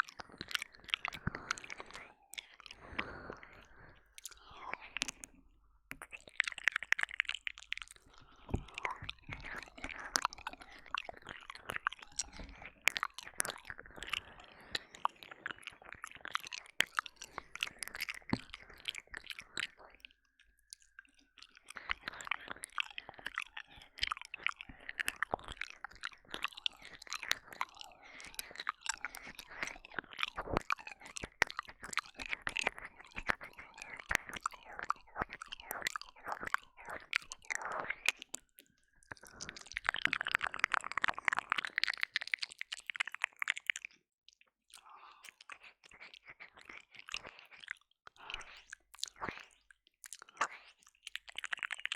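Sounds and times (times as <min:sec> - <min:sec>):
wet mouth sounds: 0:00.0 - 0:51.9.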